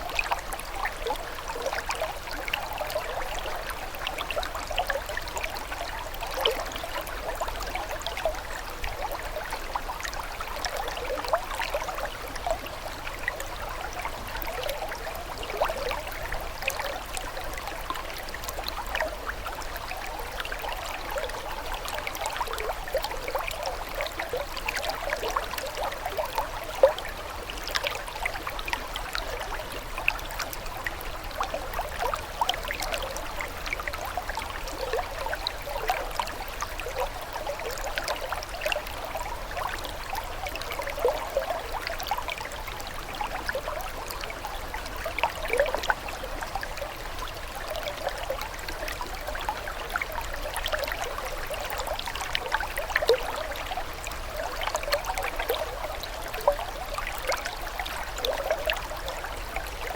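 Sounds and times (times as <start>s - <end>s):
water trickling and bubbling: 0.0s - 59.9s.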